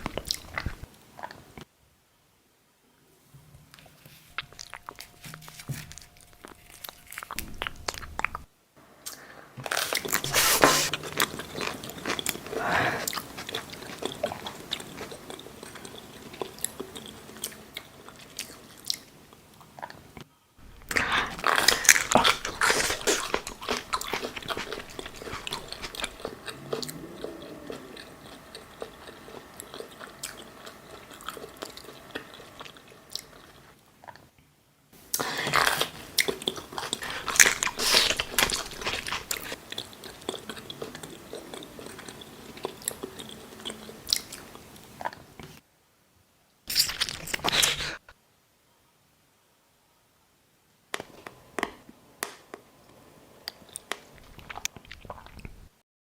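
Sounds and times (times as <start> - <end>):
crunchy chewing: 0.0 - 1.4, 4.3 - 34.3, 35.0 - 45.6, 46.7 - 48.0, 51.0 - 55.7.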